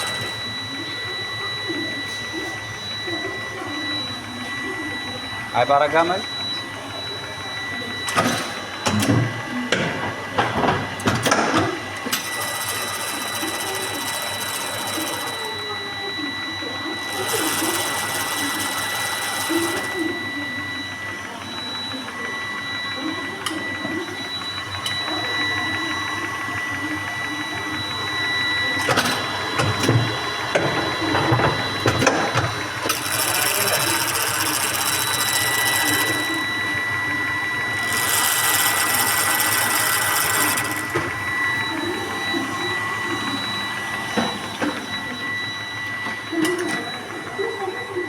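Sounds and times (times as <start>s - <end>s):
paper cutting machine whine: 0.0s - 48.0s.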